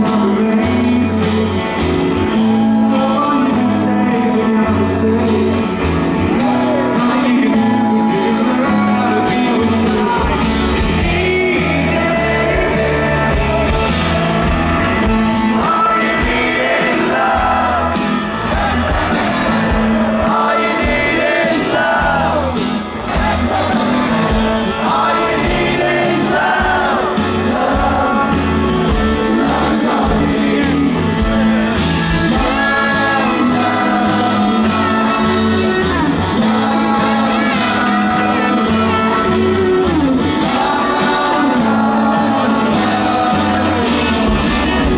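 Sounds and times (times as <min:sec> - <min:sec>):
lead singer singing: 0:00.0 - 0:44.9
rock band playing: 0:00.0 - 0:44.9
crowd shouting: 0:06.0 - 0:44.9.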